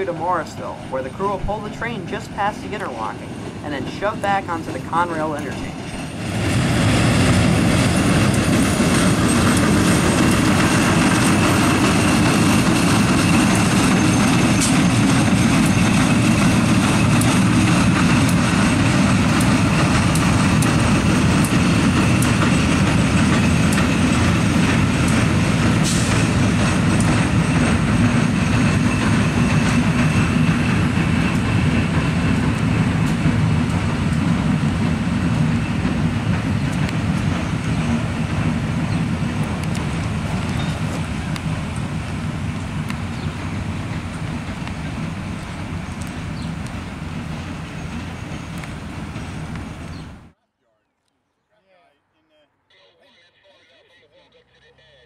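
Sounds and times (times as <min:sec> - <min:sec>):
slow train rumbling: 0:00.0 - 0:50.4.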